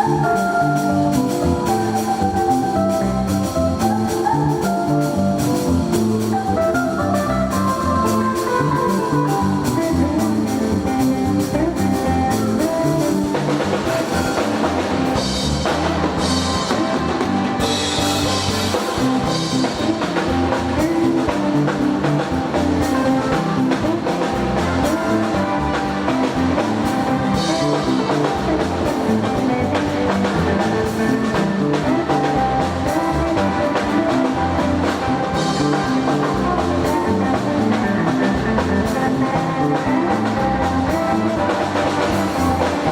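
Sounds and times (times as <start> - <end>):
drum kit: 0.0 - 42.9
guitar: 0.0 - 42.9.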